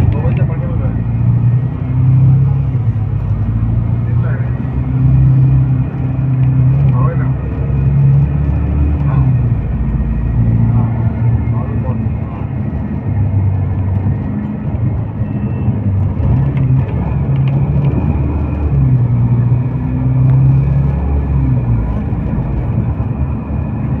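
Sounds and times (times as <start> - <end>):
vehicle engine drone: 0.0 - 24.0.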